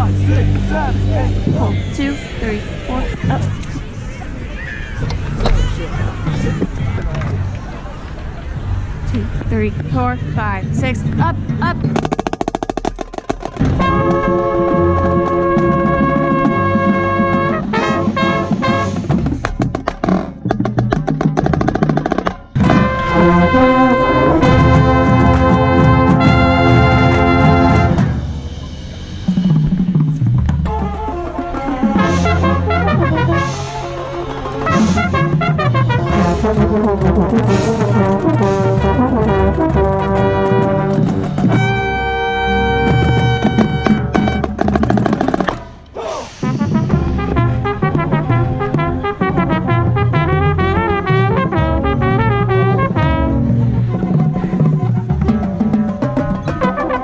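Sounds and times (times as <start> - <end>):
marching band playing: 0.0 - 3.6, 8.6 - 57.0.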